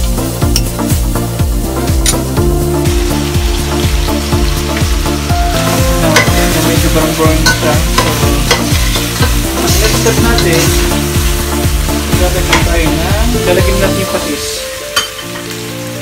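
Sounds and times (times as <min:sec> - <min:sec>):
background music: 0:00.0 - 0:16.0
chicken sizzling in a pot: 0:00.0 - 0:16.0.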